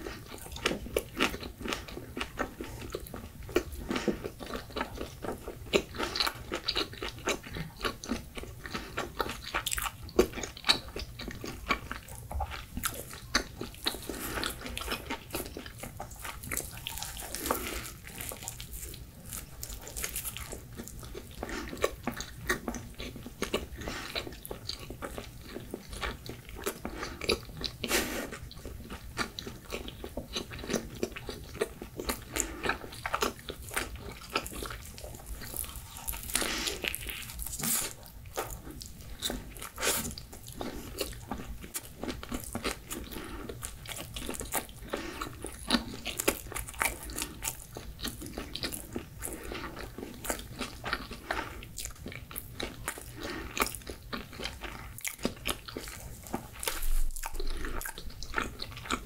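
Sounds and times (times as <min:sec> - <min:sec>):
chewing pizza crunches: 0:00.0 - 0:59.0.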